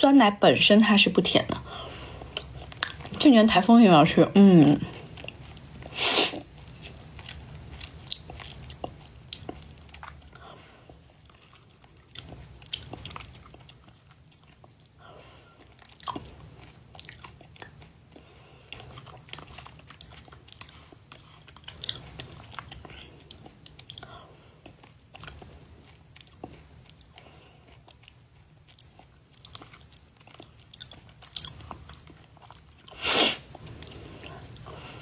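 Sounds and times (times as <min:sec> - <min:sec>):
person chewing food: 0:01.5 - 0:03.3, 0:04.6 - 0:35.0.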